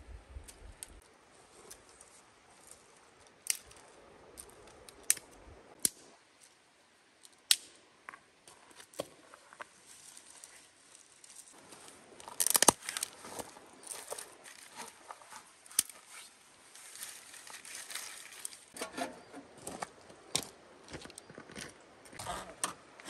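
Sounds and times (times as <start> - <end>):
dry twigs rustling and snapping: 0.4 - 6.6, 7.2 - 21.7.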